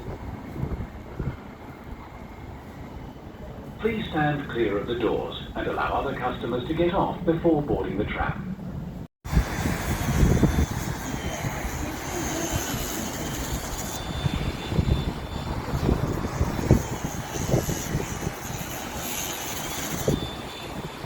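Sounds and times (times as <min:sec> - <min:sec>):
tram motor hum and rumble: 0:00.0 - 0:21.0.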